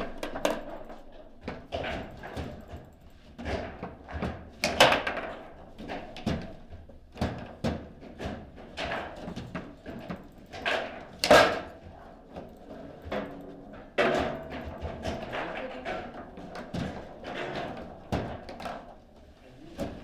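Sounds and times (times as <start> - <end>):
table football ball and players clacking: 0.0 - 20.0.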